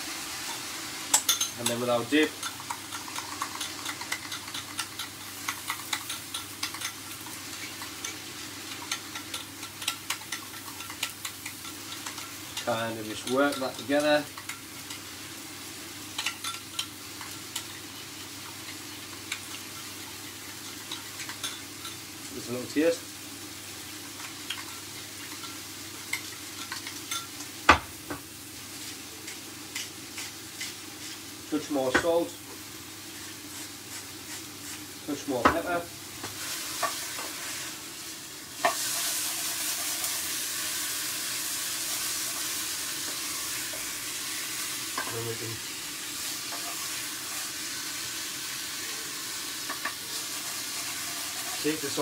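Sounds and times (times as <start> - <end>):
steak sizzling in frying pan: 0.0 - 52.0.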